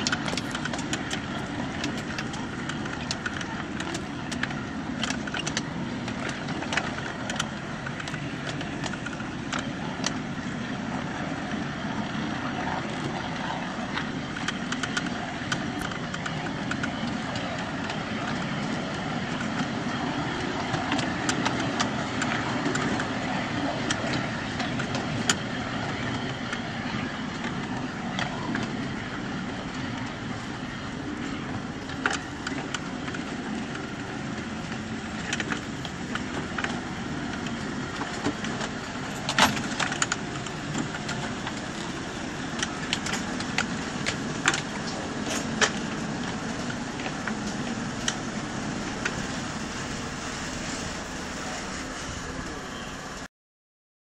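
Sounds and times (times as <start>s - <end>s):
sharp clicks and clacks: 0.0s - 49.4s
miniature train wheels rumbling: 0.0s - 53.3s.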